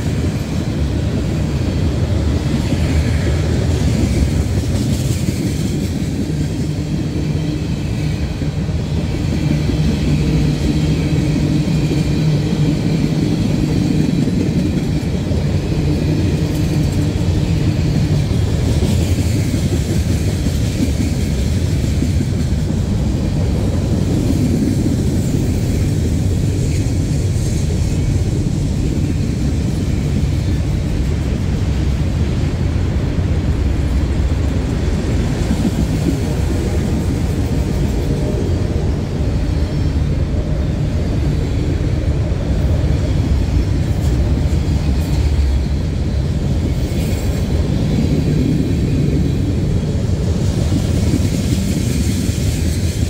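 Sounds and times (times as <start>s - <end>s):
freight train cars rumbling past: 0.0s - 53.0s.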